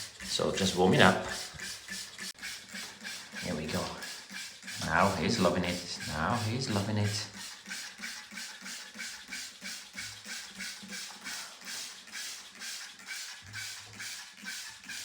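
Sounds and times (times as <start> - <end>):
spray bottle hissing squirts: 0.0 - 15.0.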